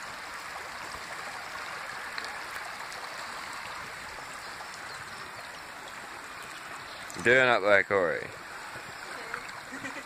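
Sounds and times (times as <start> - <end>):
stream flowing over stones: 0.0 - 10.0.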